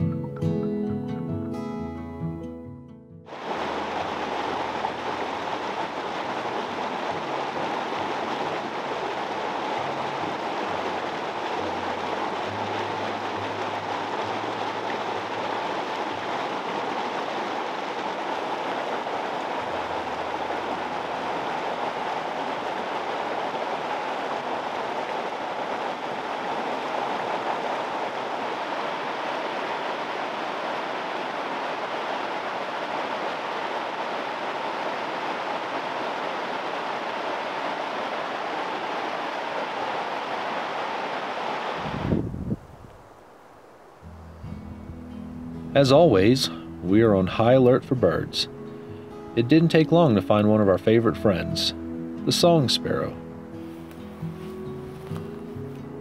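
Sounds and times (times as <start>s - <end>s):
creek rushing over rocks: 3.3s - 44.2s, 45.7s - 56.0s.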